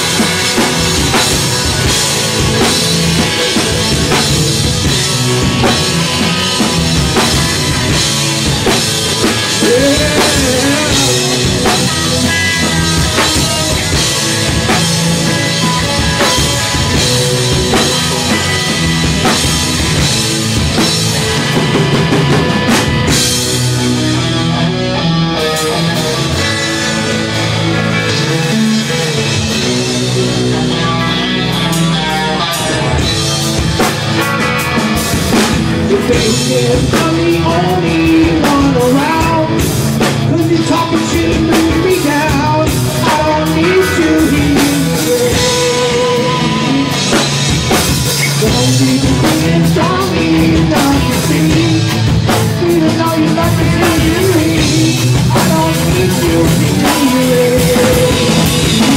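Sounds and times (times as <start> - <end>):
bass guitar: 0.0 - 58.9
drum kit: 0.0 - 58.9
electric guitars: 0.0 - 58.9.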